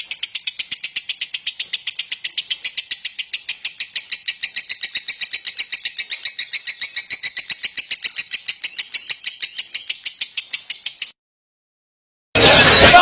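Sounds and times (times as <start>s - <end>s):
bird trilling high chirps: 0.0s - 11.2s.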